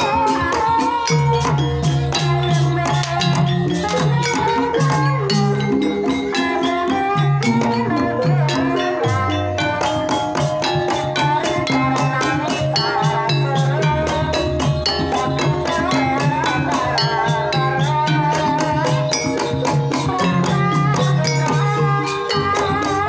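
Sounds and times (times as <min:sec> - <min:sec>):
gamelan ensemble playing: 0:00.0 - 0:23.0
hand drums beating: 0:00.0 - 0:23.0
ringing gongs and metallophones: 0:00.0 - 0:23.0.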